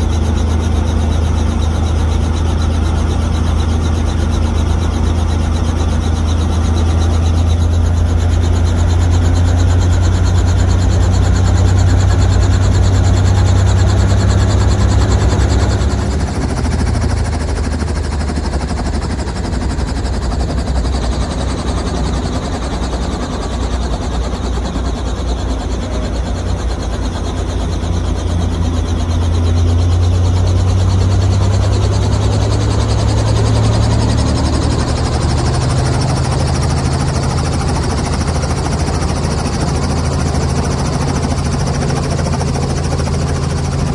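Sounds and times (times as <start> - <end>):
helicopter engine drone: 0.0 - 43.9.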